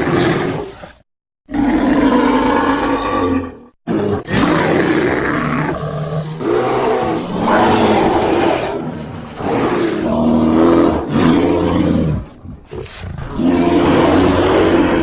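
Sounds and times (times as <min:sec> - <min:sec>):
deep rough bear roars: 0:00.0 - 0:15.0.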